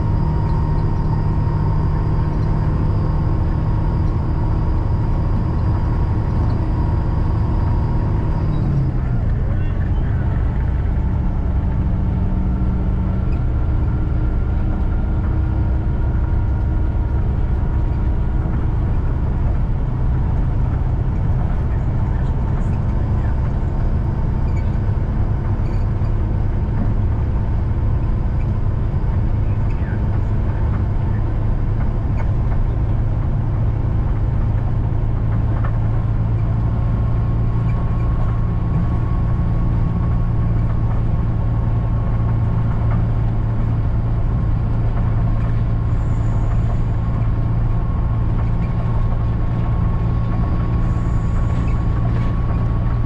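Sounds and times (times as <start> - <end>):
bus engine drone: 0.0 - 53.0
road noise: 0.0 - 53.0.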